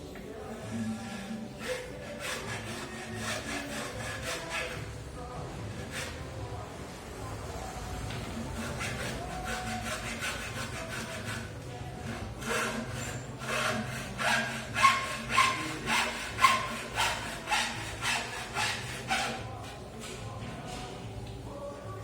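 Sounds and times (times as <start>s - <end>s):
rhythmic scraping strokes: 0.0s - 21.2s.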